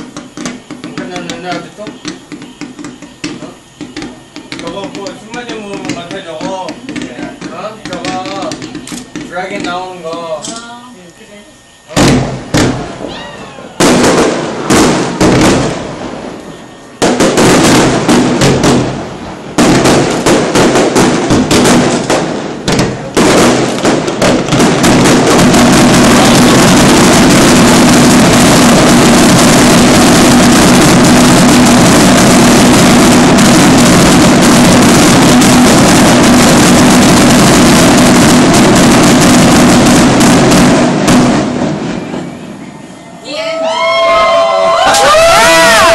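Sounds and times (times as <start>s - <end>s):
fireworks bangs and crackle: 0.0s - 10.9s, 11.6s - 43.0s, 43.7s - 45.9s.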